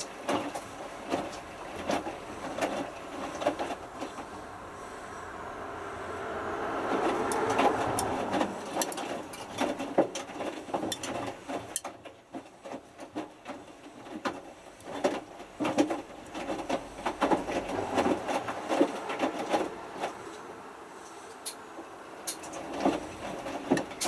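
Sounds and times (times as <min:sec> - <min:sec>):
washing machine drum sloshing: 0:00.0 - 0:24.0.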